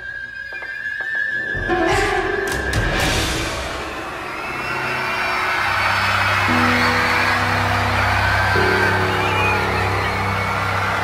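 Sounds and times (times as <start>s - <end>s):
audience screaming and cheering: 0.0s - 11.0s
dramatic music: 1.2s - 11.0s.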